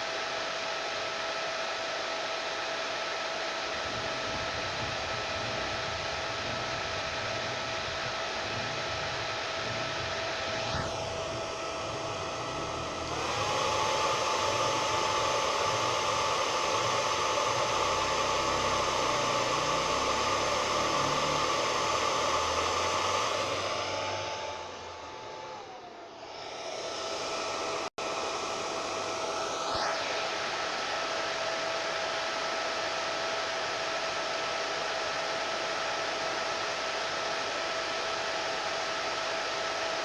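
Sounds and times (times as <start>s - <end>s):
hair dryer blowing: 0.0s - 40.0s.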